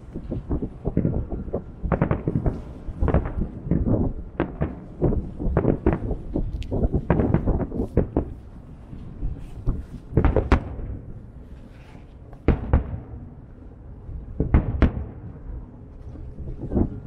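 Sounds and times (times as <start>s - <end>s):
firework shells booming: 0.0s - 11.4s, 12.1s - 13.6s, 14.2s - 15.8s.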